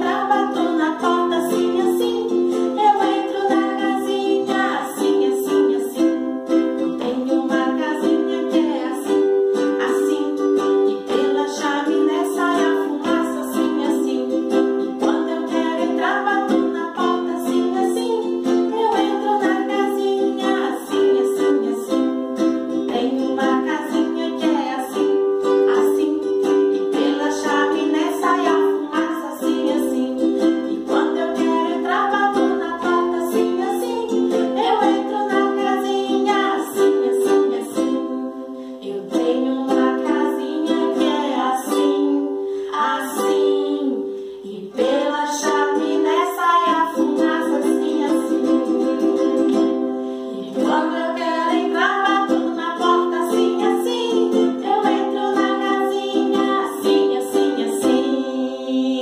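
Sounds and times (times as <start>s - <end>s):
ukulele strumming chords: 0.0s - 59.0s
women singing: 0.0s - 59.0s.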